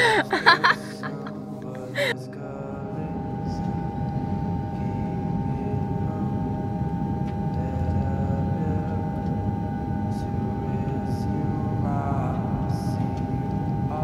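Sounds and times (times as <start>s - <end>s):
low rumbling drone: 2.4s - 14.0s.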